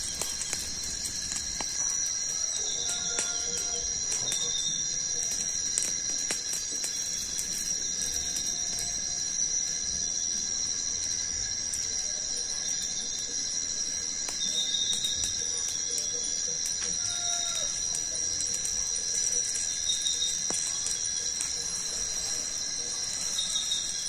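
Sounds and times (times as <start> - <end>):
campfire crackling: 0.0 - 24.0
insects droning: 0.0 - 24.0.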